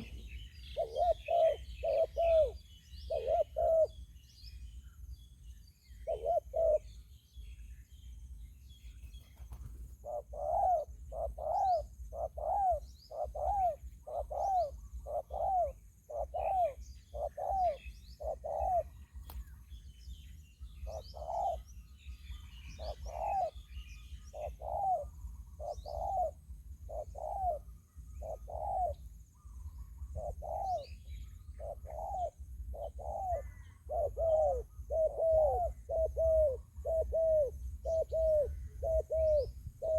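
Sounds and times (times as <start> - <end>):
dove cooing: 0.0 - 4.0, 5.9 - 7.0, 9.5 - 19.3, 20.7 - 39.9
small birds chirping: 0.0 - 39.9.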